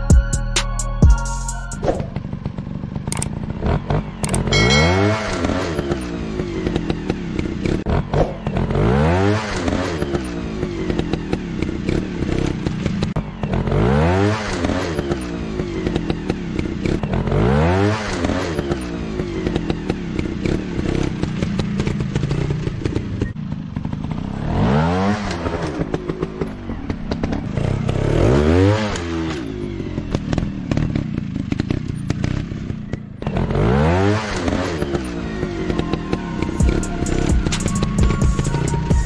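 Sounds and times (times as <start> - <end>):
motorcycle engine revving: 1.8 - 39.0.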